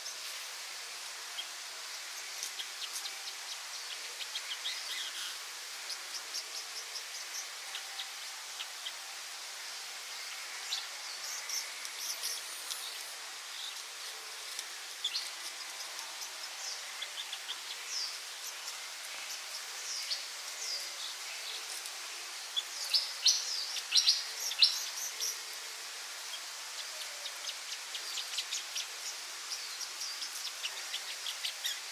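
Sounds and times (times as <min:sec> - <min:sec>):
songbirds chirping: 0:00.0 - 0:31.9
steady background hiss: 0:00.0 - 0:31.9.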